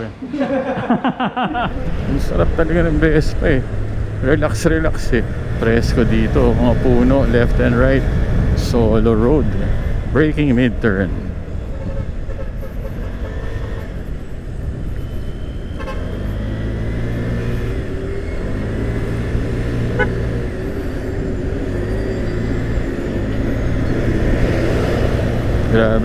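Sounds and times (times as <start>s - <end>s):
road and wind rumble: 0.0s - 26.0s.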